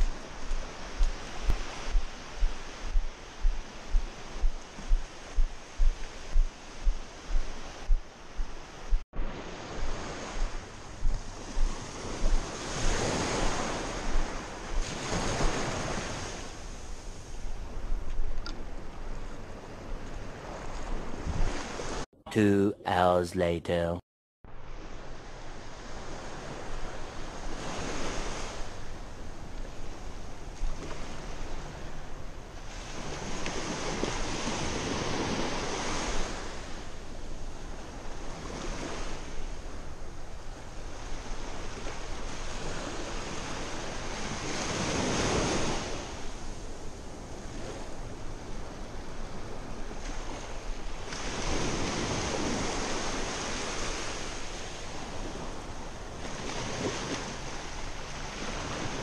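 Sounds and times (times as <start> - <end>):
small waves breaking on sand: 0.0 - 17.9, 24.7 - 59.0.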